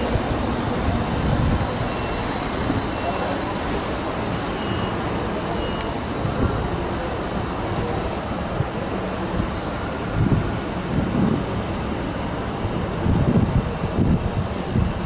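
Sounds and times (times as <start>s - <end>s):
train rolling rumble: 0.0s - 15.0s.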